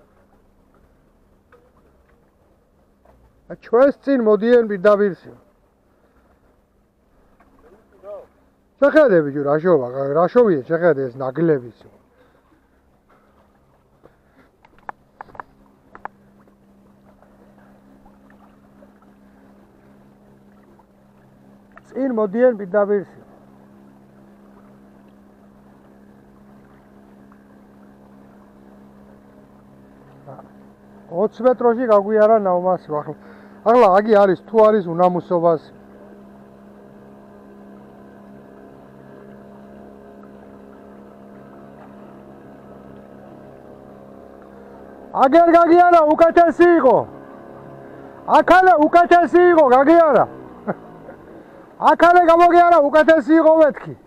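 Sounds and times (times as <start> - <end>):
motorboat engine humming: 0.0 - 54.0.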